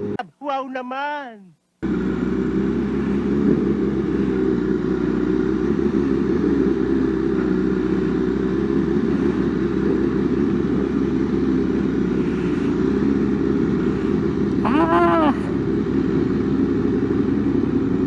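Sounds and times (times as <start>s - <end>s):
motorbike engine running: 0.0s - 0.2s, 1.8s - 18.0s.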